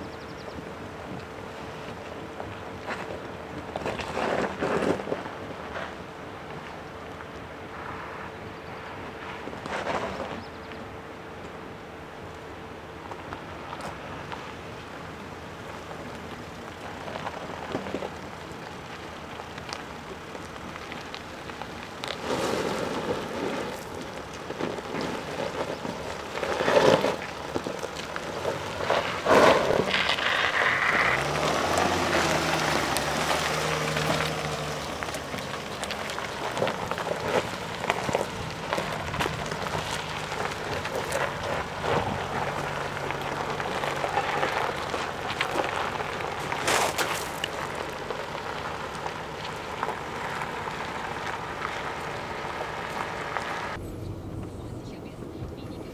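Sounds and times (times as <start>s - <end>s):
tyres crunching on loose stones: 0.0s - 11.7s, 12.4s - 55.9s
car engine running low: 0.0s - 55.9s.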